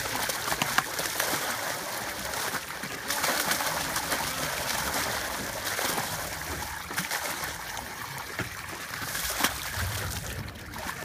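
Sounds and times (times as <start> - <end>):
fish splashing on surface: 0.0 - 11.0
water gushing from pipe: 0.0 - 11.0.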